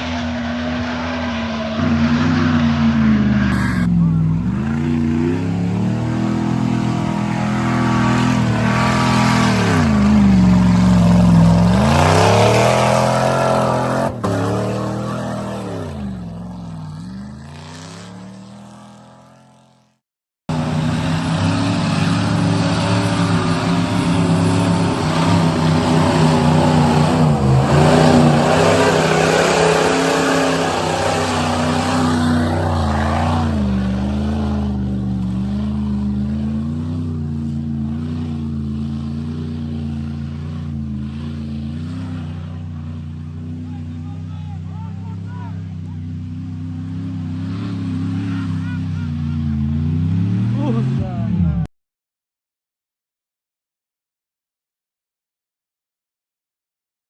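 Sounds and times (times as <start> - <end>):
off-road engine revving: 0.0 - 51.7.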